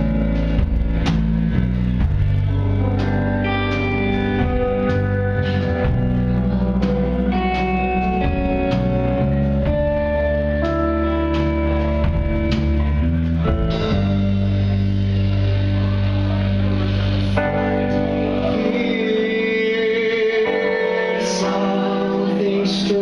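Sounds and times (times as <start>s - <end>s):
rock band playing sustained chords: 0.0s - 23.0s.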